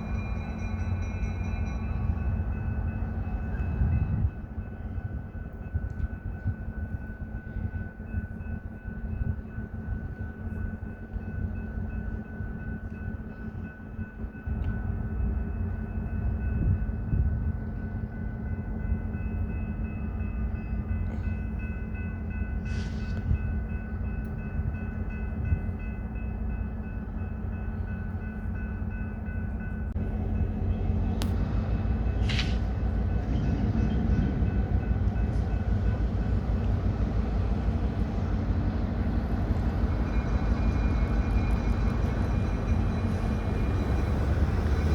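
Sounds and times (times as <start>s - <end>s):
freight train rumbling: 0.0s - 44.9s.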